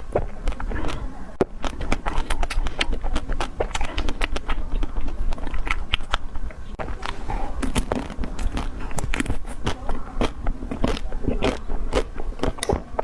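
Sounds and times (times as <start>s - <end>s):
biting and chewing ice cream: 0.0s - 13.0s
chocolate coating cracking: 0.0s - 13.0s.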